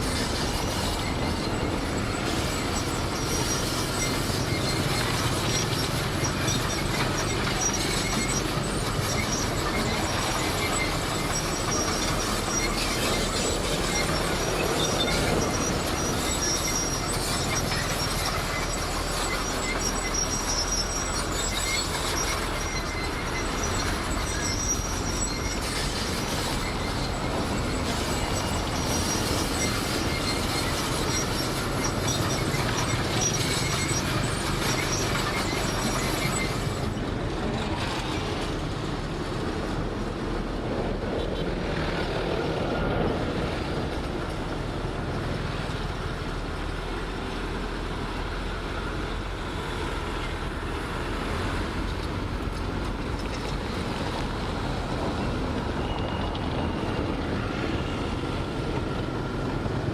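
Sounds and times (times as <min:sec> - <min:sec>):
bulldozer diesel engine running: 0:00.0 - 0:59.9
high track squeals: 0:00.0 - 0:59.9
steel tracks clattering: 0:00.0 - 0:59.9.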